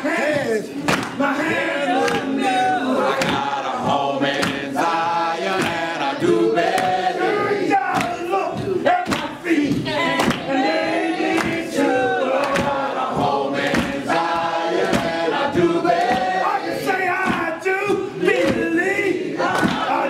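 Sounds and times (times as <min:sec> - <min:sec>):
congregation singing: 0:00.0 - 0:20.0
sharp rhythmic strikes: 0:00.0 - 0:20.0.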